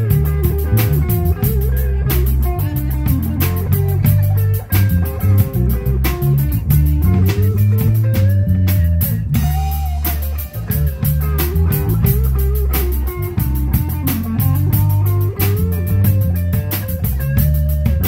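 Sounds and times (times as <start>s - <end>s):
bass line: 0.0s - 18.0s
drum kit: 0.0s - 18.0s
electric guitar line: 0.0s - 18.0s.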